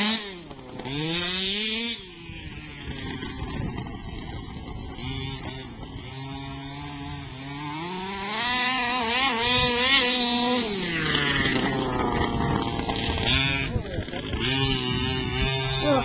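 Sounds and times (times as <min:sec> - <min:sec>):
remote-control car engine revving: 0:00.0 - 0:16.0.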